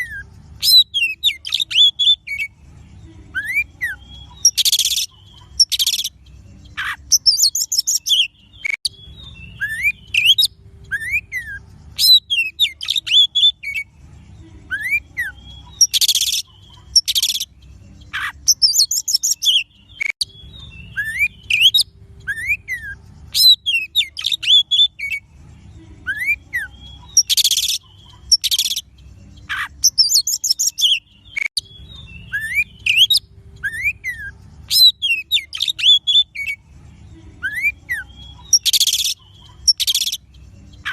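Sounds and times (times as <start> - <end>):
bird whistled song: 0.0 - 2.6, 3.3 - 13.9, 14.6 - 25.2, 26.0 - 36.6, 37.4 - 40.9.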